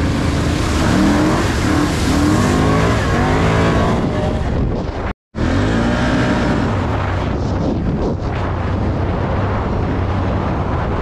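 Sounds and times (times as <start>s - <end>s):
wind buffeting the microphone: 0.0s - 5.1s, 5.9s - 11.0s.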